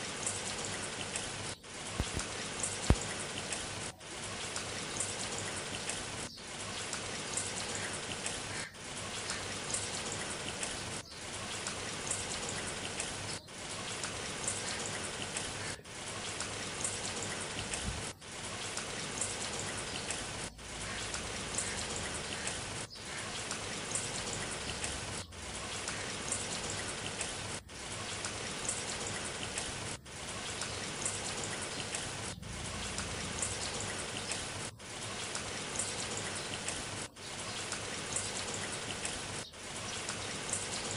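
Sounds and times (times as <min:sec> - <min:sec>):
rain patter and hiss: 0:00.0 - 0:40.9.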